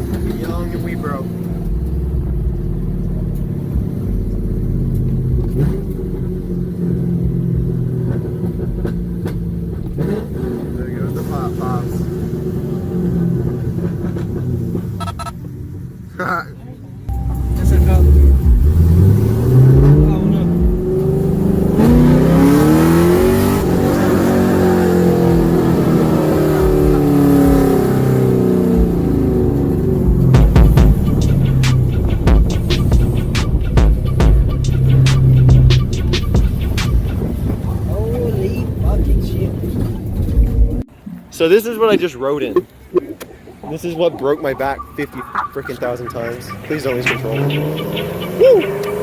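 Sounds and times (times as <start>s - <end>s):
loud car exhaust: 0.0s - 16.2s, 17.1s - 41.0s, 44.7s - 49.0s.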